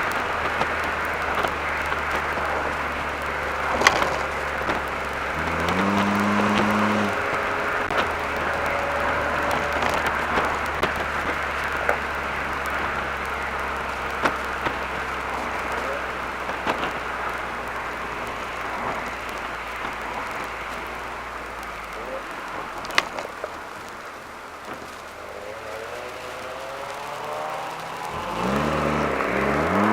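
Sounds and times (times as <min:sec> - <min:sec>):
car engine humming: 0:00.0 - 0:29.9
tyre and wind noise: 0:00.0 - 0:29.9.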